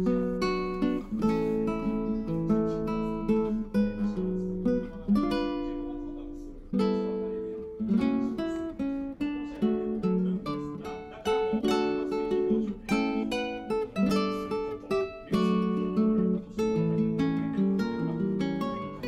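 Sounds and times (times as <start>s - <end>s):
guitar plucking and strumming: 0.0s - 19.0s.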